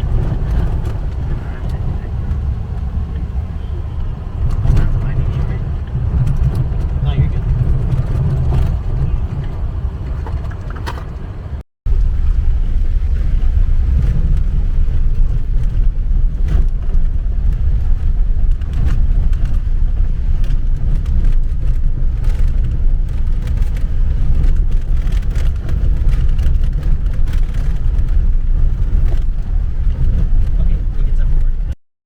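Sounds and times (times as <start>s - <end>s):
truck engine and tyres rumbling: 0.0s - 31.8s.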